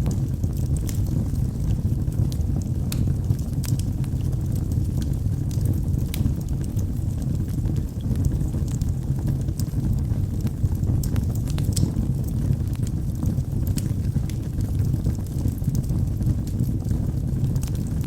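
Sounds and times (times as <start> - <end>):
fire flames rumbling: 0.0 - 18.0
wood crackling and popping: 0.0 - 18.0.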